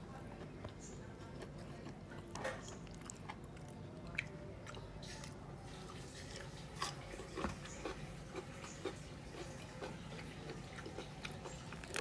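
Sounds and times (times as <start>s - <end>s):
chewing and crisp bites: 0.2s - 5.4s, 6.2s - 12.0s.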